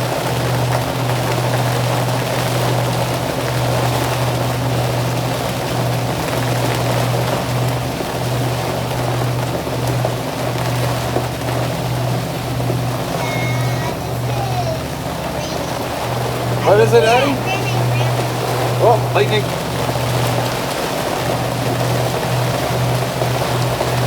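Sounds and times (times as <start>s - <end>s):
boat engine humming: 0.0s - 24.0s
rain hissing: 0.0s - 24.0s
water rushing past boat: 0.0s - 24.0s.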